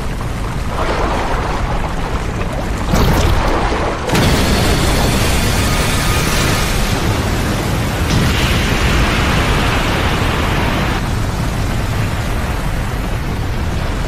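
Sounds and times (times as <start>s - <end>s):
explosion rumble: 0.8s - 12.7s.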